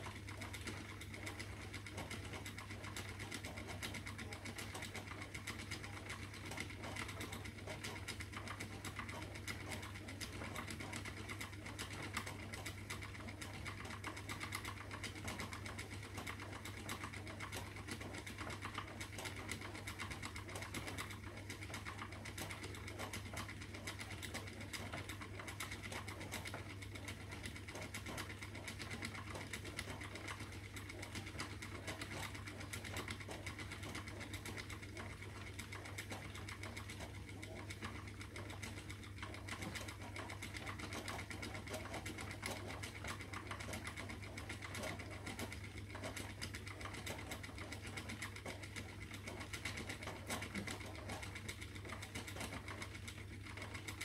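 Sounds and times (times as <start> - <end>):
spinning wheel whirring: 0.0 - 54.0.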